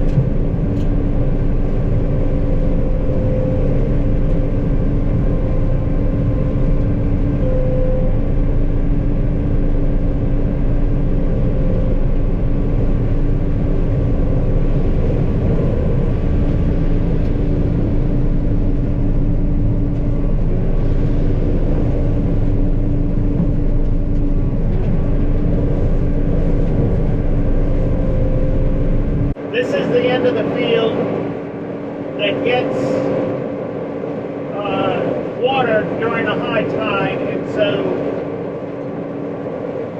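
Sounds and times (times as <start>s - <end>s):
combine harvester machinery drone: 0.0s - 39.9s.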